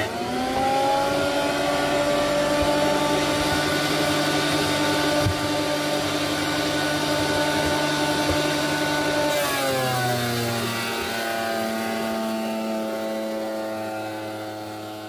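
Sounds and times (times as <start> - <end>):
electric motor humming: 0.0 - 15.0.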